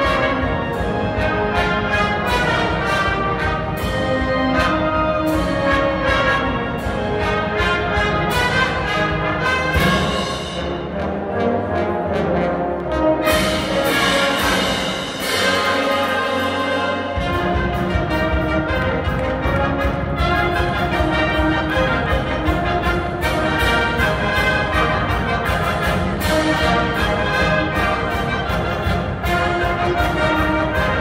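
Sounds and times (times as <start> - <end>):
brass band playing: 0.0 - 31.0.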